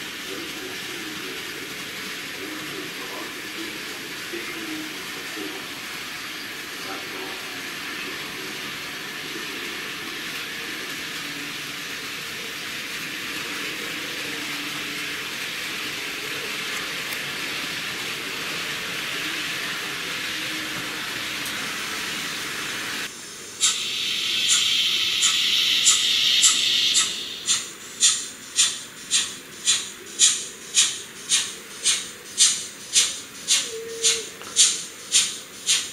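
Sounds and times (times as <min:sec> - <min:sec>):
steady hiss: 0:00.0 - 0:35.9
steam hiss: 0:00.0 - 0:35.9
steam locomotive chuffs: 0:00.0 - 0:35.9.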